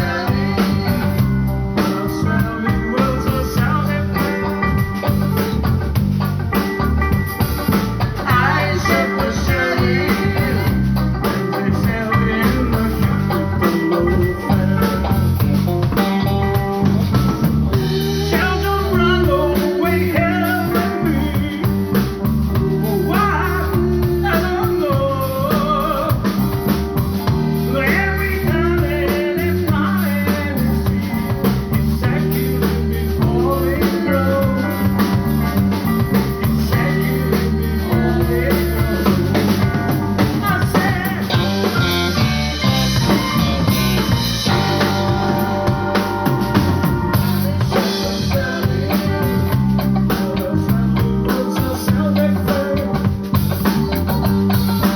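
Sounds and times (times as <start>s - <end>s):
drum kit: 0.0s - 54.9s
guitar: 0.0s - 54.9s
live blues band: 0.0s - 54.9s.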